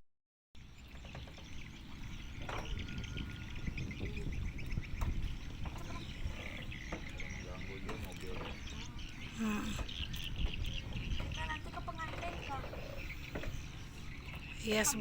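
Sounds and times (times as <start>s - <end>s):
birds chirping: 0.6s - 15.0s
wind rumble on microphone: 0.6s - 15.0s.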